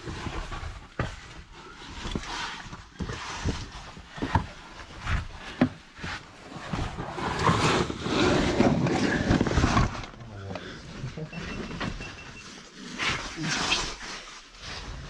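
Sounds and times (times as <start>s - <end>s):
scraping and shuffling: 0.0s - 15.0s.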